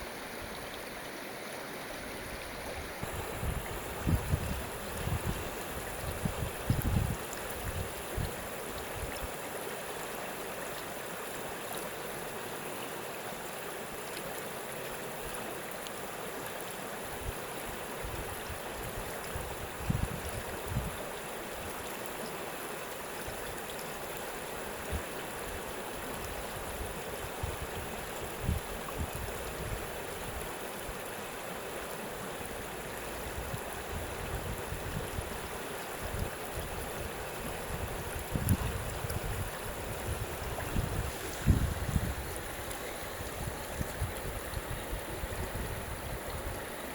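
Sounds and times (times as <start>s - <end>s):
stream water rushing and gurgling: 0.0s - 46.9s.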